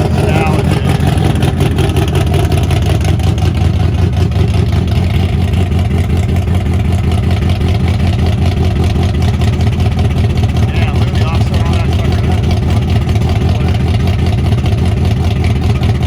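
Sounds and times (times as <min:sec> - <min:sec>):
vehicle engines rumbling past: 0:00.0 - 0:16.0.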